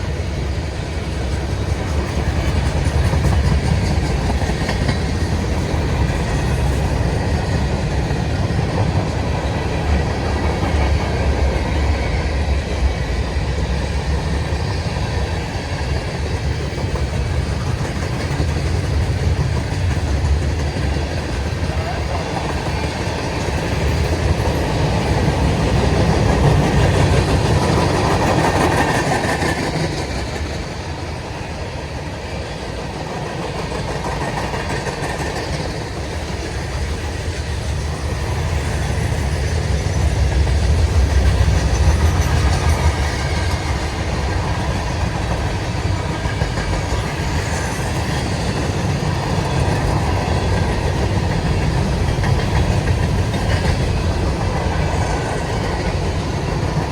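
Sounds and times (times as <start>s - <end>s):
clickety-clack over rail joints: 0.0s - 56.9s
freight train wheels rumbling: 0.0s - 56.9s.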